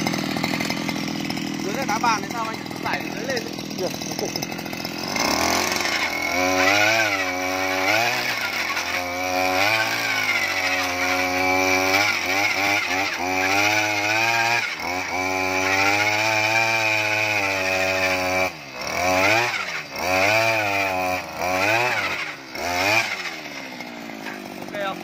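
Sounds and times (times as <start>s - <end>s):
earth auger engine running: 0.0s - 25.0s.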